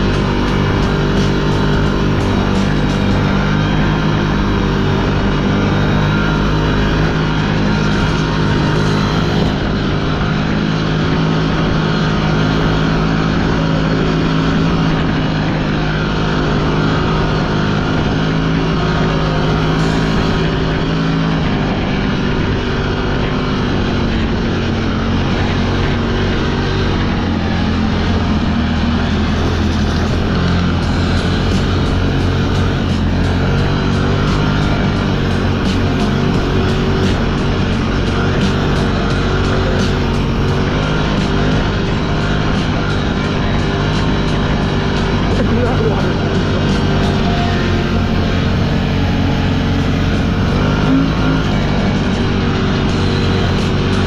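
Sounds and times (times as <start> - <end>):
vehicle engine running steadily: 0.0 - 54.0.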